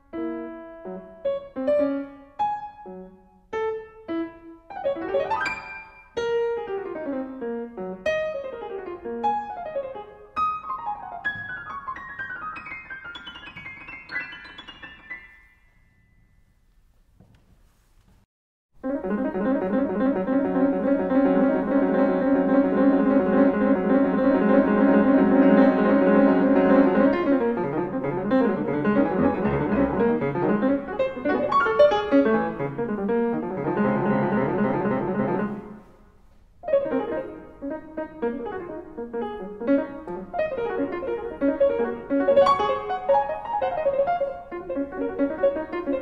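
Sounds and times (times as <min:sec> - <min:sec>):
grand piano playing chords: 0:00.0 - 0:16.5, 0:18.8 - 0:46.0.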